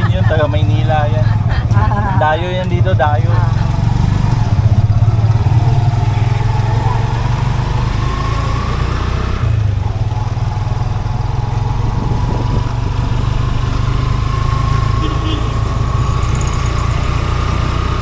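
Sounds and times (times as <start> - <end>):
motorcycle engine drone: 0.0 - 18.0.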